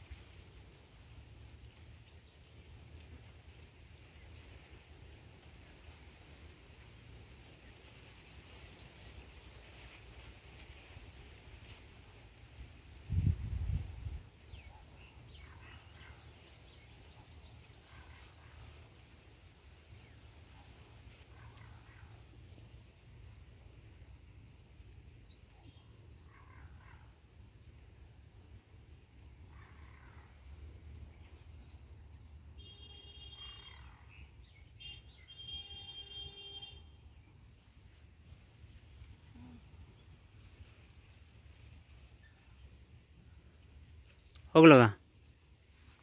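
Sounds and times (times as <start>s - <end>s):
insect trill: 0.0s - 46.0s.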